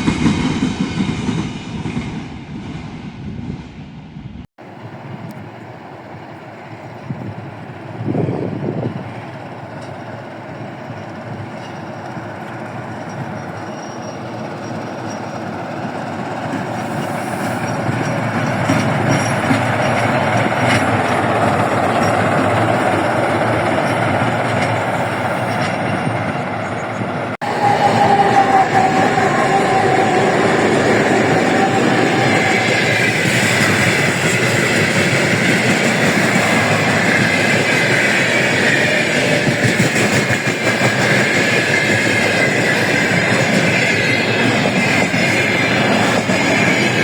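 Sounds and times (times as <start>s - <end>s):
train rolling on rails: 0.0s - 47.0s.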